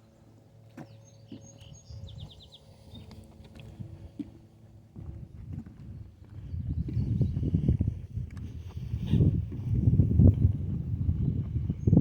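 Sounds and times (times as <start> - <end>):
footsteps on wooden boardwalk: 0.6 - 11.8.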